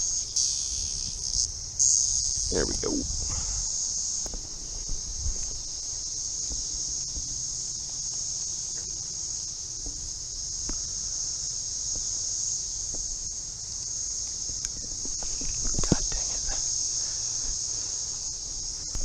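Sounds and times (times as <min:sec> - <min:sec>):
cicada chorus droning: 0:00.0 - 0:19.0.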